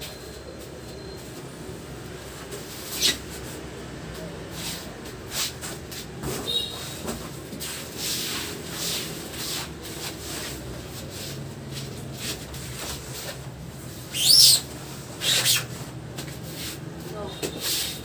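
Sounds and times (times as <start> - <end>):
objects rustling and scraping: 2.3 - 18.0.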